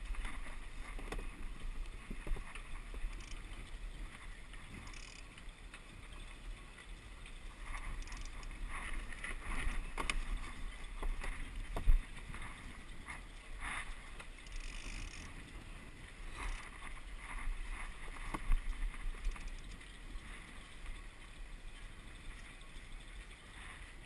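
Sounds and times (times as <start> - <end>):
water splashing against hull: 0.0 - 24.0
wind rumbling on microphone: 0.0 - 24.0.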